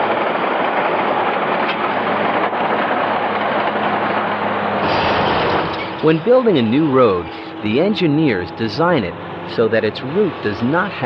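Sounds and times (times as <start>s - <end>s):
heavy construction machinery running: 0.0s - 11.0s.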